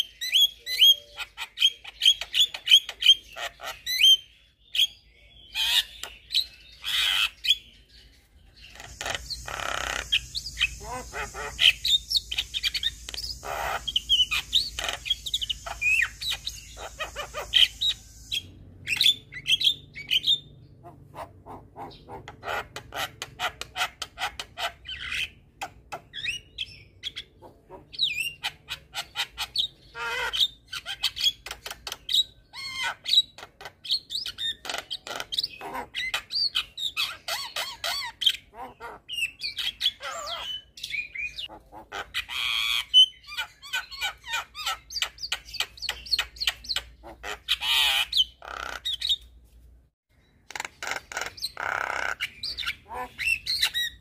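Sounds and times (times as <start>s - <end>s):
bird chattering: 8.6s - 49.3s, 50.4s - 54.0s.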